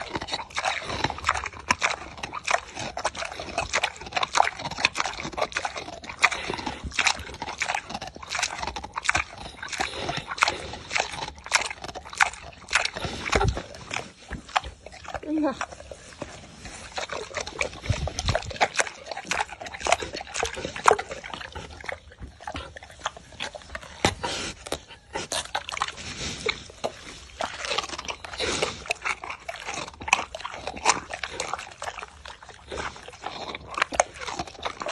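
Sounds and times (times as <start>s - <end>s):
pig chewing melon: 0.0s - 34.9s.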